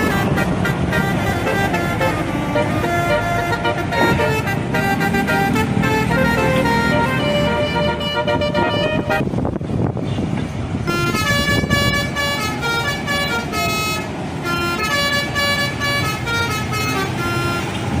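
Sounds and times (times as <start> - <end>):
loud rushing noise: 0.0 - 18.0
multi-tone musical bus horn: 0.0 - 18.0.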